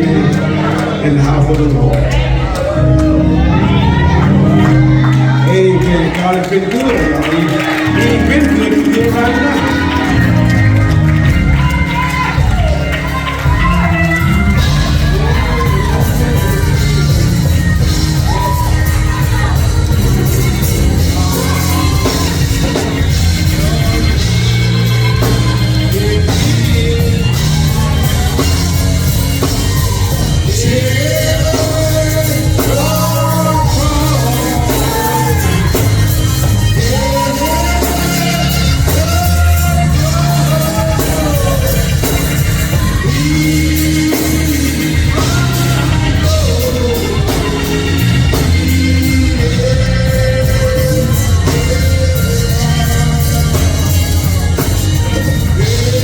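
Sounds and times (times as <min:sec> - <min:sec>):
gospel band playing: 0:00.0 - 0:56.0
heavy bass line: 0:00.0 - 0:56.0
person singing: 0:00.0 - 0:56.0.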